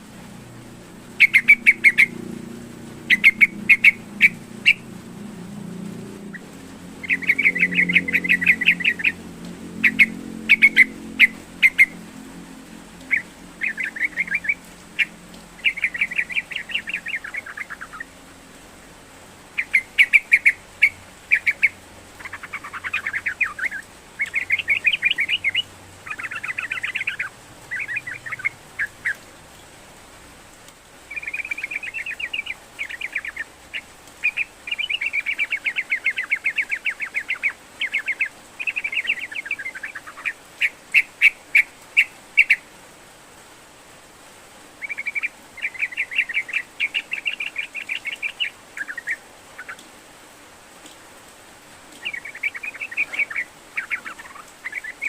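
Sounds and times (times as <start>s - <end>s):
bird singing bubbly chatter: 1.1s - 5.0s, 6.2s - 12.2s, 13.0s - 18.2s, 19.6s - 29.7s, 31.0s - 42.6s, 44.8s - 49.8s, 52.0s - 55.0s.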